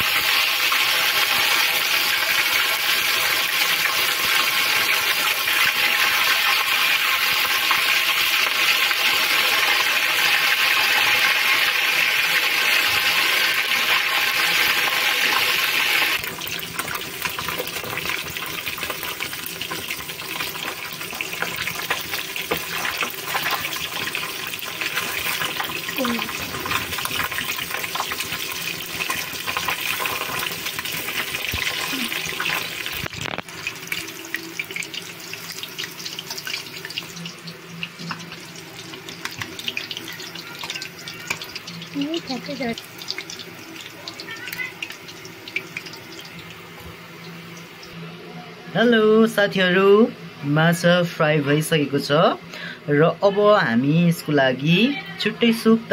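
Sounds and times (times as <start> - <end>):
fish sizzling in hot oil: 0.0 - 48.0.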